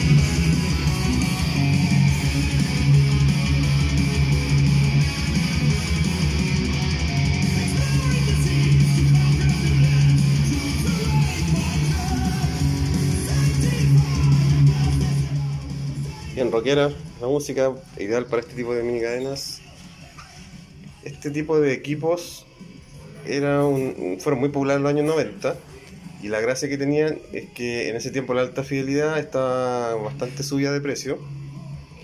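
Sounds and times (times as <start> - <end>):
rock music through speakers: 0.0 - 32.0.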